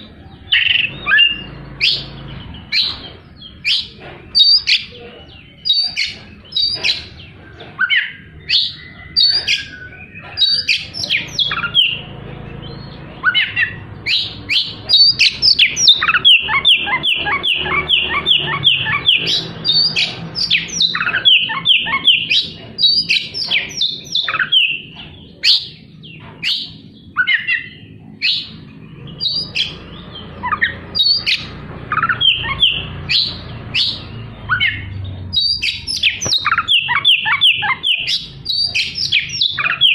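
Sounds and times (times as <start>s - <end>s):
bird singing whistled notes: 0.2s - 4.9s, 5.5s - 12.1s, 12.7s - 39.9s.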